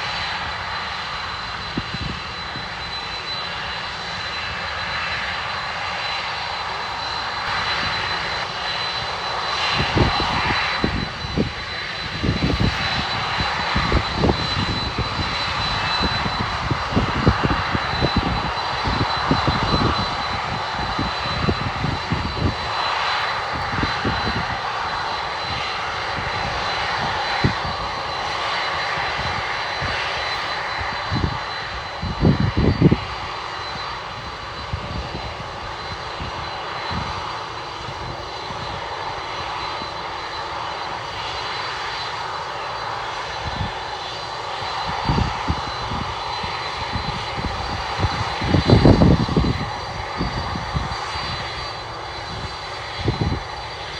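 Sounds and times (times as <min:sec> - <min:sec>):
jet engines rushing and whining: 0:00.0 - 0:53.9.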